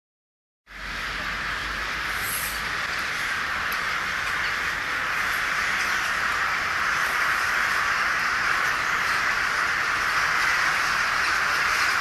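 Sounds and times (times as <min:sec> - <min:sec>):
crows cawing in a flock: 0:00.9 - 0:12.0.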